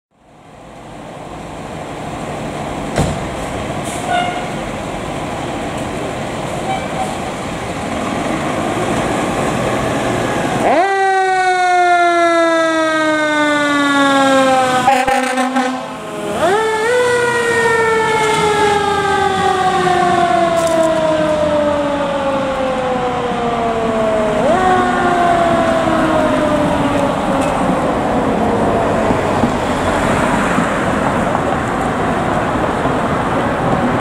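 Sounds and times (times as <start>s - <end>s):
truck engine noise: 0.1s - 34.0s.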